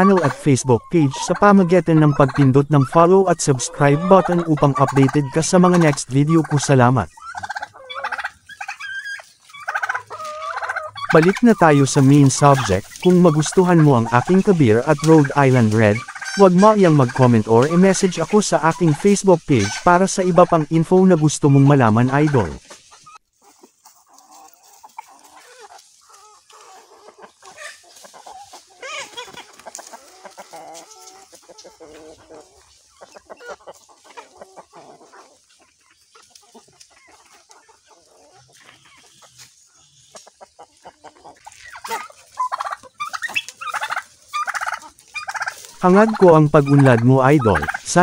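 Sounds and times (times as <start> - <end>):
chickens clucking: 0.0 - 48.0
chickens' quick repeated calls: 0.0 - 48.0.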